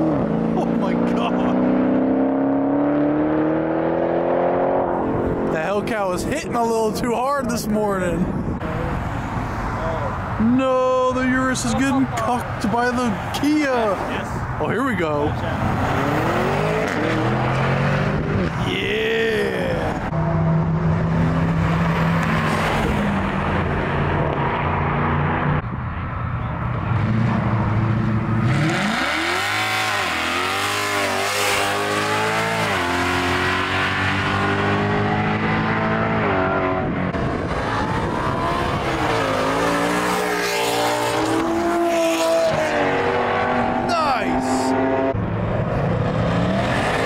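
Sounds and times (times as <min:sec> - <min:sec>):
cars accelerating hard: 0:00.0 - 0:06.9, 0:15.2 - 0:47.0.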